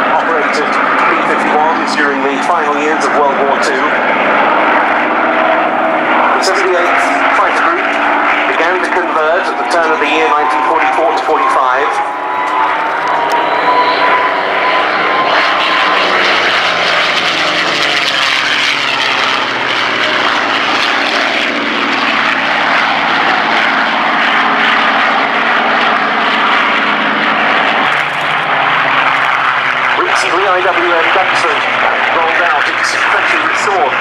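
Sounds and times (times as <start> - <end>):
piston engine planes flying overhead: 0.0 - 34.0.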